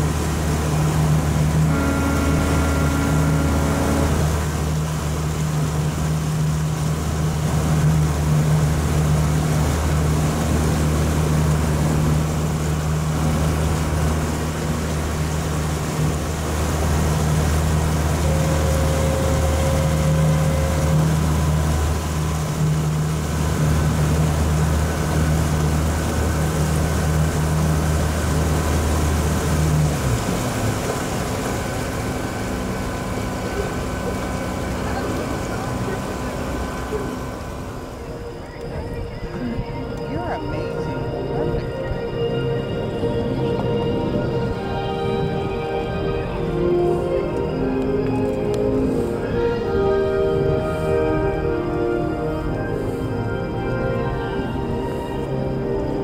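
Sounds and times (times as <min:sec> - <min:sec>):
boat engine humming: 0:00.0 - 0:56.0
water wash: 0:00.0 - 0:56.0.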